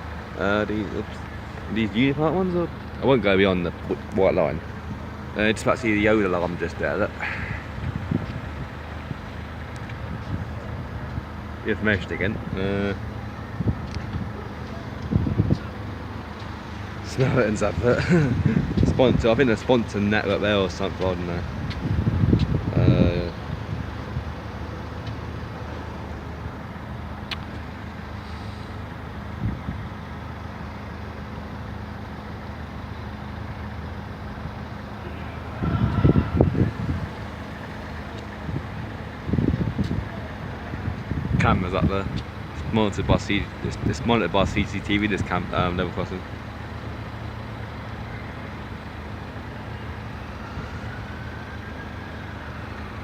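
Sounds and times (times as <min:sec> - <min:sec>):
engine idling: 0:00.0 - 0:53.0
road noise: 0:00.0 - 0:53.0
vehicle pulling away whine: 0:00.0 - 0:53.0.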